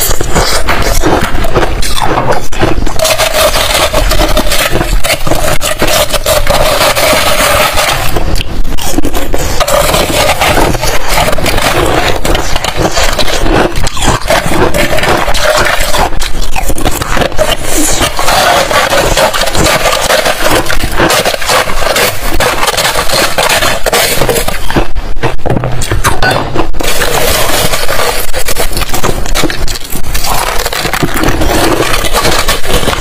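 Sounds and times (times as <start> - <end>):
metal spoon scraping ice: 0.0 - 25.0, 26.2 - 33.0.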